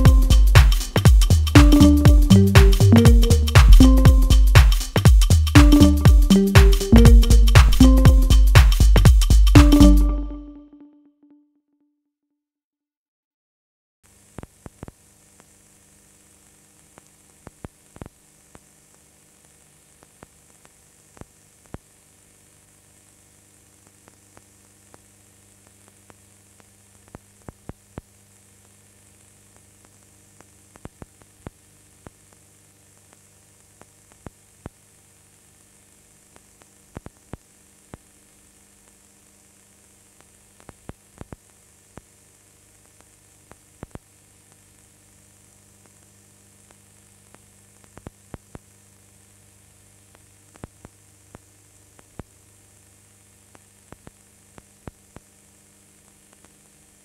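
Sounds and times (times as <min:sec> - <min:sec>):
electrical hum and hiss: 0:00.0 - 0:10.2, 0:14.1 - 0:57.0.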